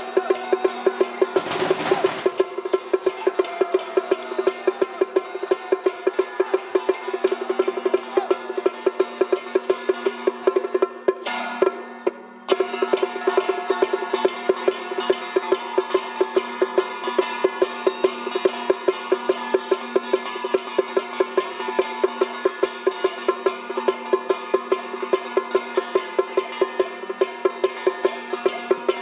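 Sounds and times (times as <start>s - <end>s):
percussion music: 0.0s - 29.0s.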